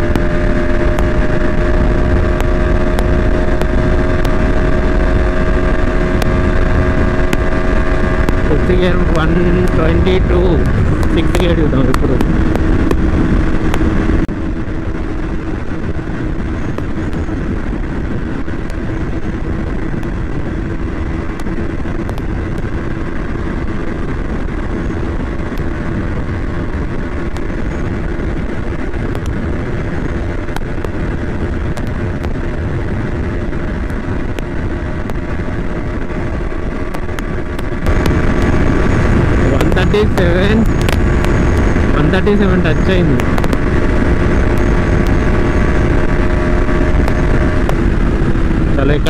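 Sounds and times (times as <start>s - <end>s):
motorcycle engine at full throttle: 0.0s - 49.0s
wind rushing on microphone: 0.0s - 49.0s.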